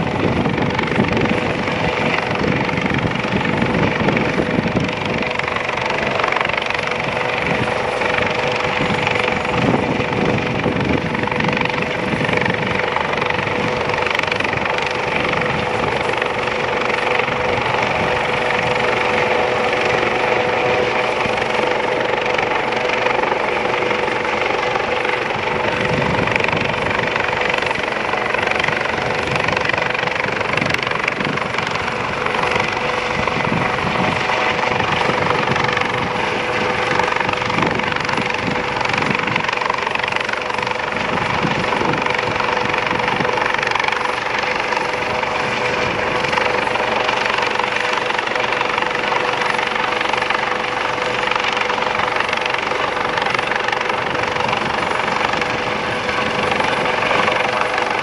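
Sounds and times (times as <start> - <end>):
helicopter hovering: 0.0 - 58.0
turbine whine: 0.0 - 58.0.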